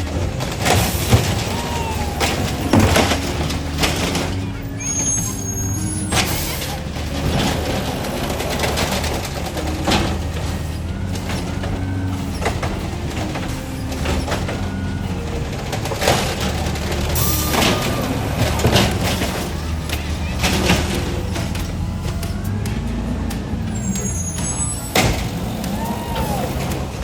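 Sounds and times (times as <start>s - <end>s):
bins clanking: 0.0s - 27.0s
garbage truck engine running: 0.0s - 27.0s.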